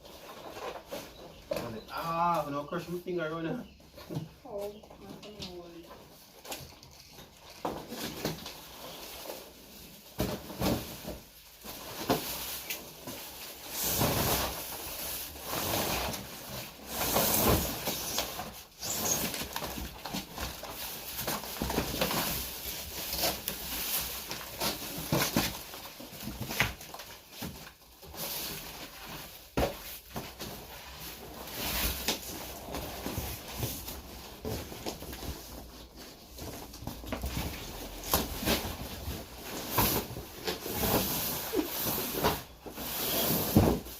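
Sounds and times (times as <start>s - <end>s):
packaging rustling and scraping: 0.0s - 1.9s, 4.0s - 43.9s.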